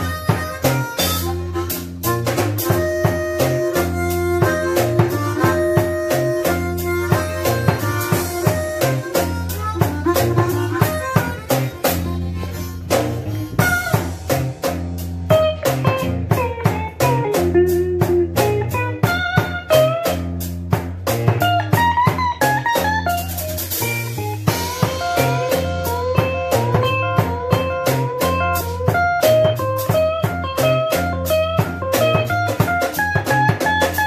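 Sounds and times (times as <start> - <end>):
harmonica playing bent notes: 0.0 - 17.4, 21.4 - 34.0
drum kit beat: 0.0 - 34.0
electric guitar: 0.0 - 34.0.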